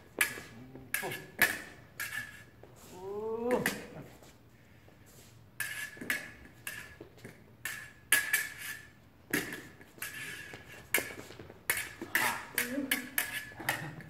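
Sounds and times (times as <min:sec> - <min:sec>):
fencing blades clashing: 0:00.0 - 0:02.7, 0:03.4 - 0:04.3, 0:05.6 - 0:14.0.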